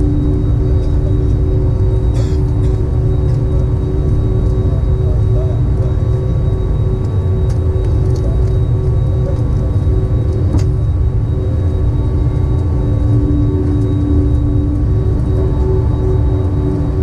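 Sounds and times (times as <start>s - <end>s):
aircraft cabin rumble: 0.0s - 17.0s
steady hum tones: 0.0s - 17.0s.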